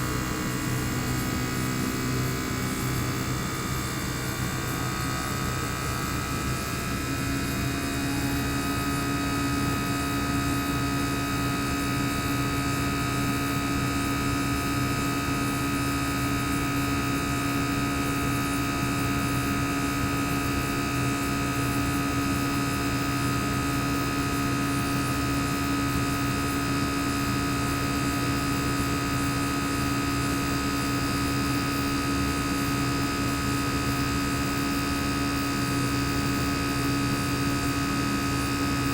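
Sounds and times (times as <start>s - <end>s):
compressor humming with high whine: 0.0s - 38.9s.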